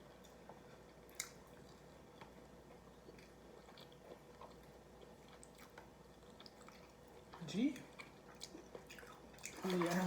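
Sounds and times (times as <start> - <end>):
faint chewing of food: 0.0 - 10.0.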